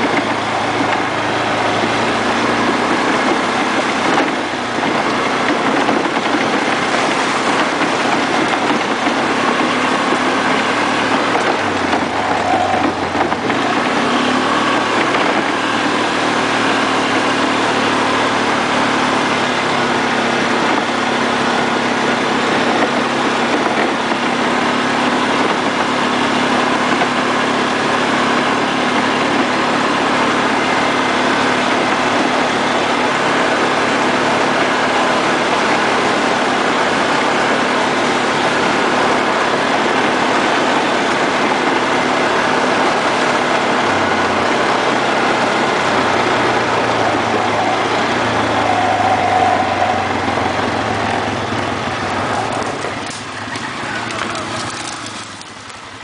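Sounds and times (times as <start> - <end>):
quad engine running: 0.0 - 56.0.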